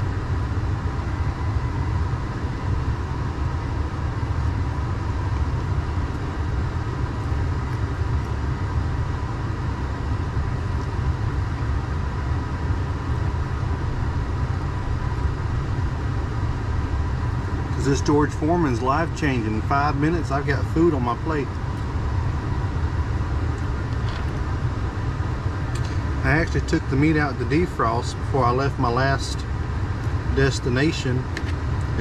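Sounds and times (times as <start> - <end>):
faint steady whine: 0.0 - 32.0.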